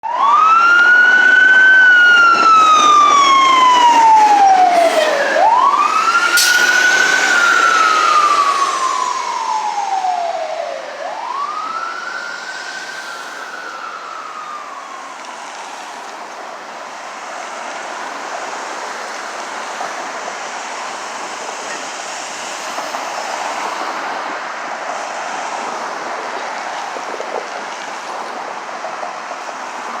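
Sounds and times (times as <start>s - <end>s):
fire engine siren wailing: 0.0s - 30.0s
traffic noise: 0.0s - 30.0s.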